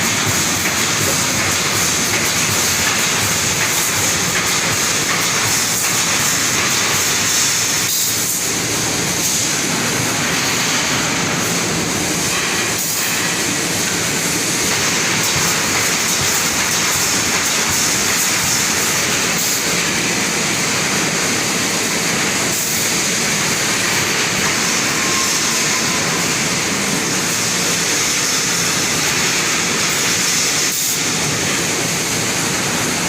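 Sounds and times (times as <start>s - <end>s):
welding machine clatter: 0.0s - 33.0s.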